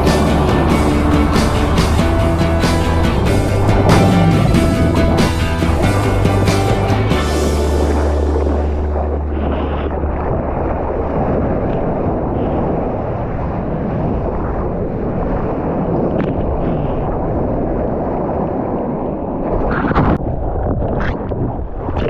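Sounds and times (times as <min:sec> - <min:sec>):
rushing ocean water: 0:00.0 - 0:22.0
water splashes: 0:00.0 - 0:22.0
wind buffeting microphone: 0:00.0 - 0:22.0.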